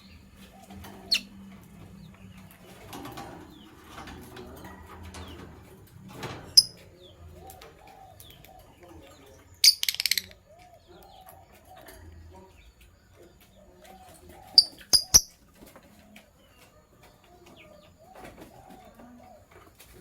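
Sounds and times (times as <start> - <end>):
pigeon cooing: 0.0 - 9.3, 10.0 - 12.5, 13.5 - 20.0
lovebirds chirping: 0.0 - 19.8.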